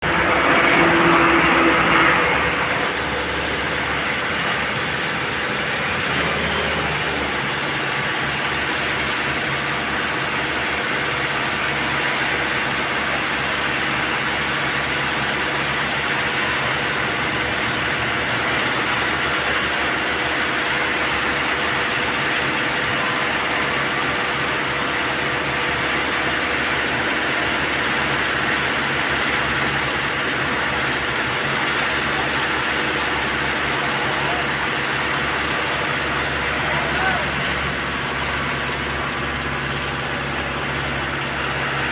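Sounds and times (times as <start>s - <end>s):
mixer truck rumbling and rattling: 0.0s - 41.9s.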